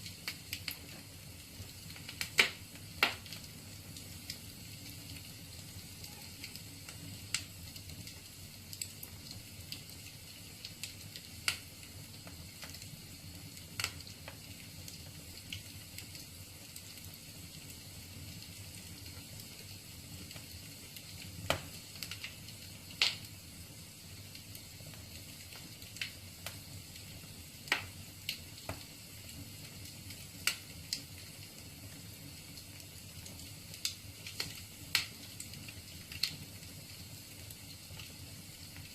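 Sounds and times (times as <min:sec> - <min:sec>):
burning logs crackling: 0:00.0 - 0:38.9.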